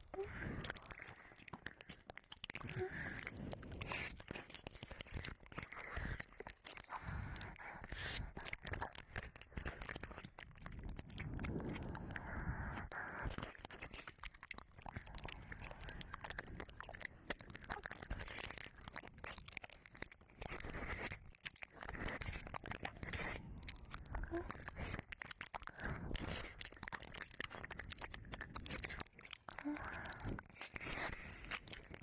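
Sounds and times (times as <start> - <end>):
wet mouth clicks and smacks: 0.0 - 32.0.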